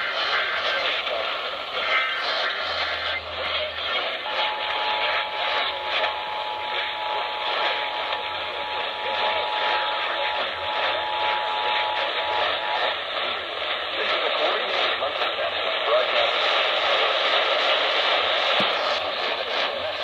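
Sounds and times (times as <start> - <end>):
radio static: 0.0 - 20.0.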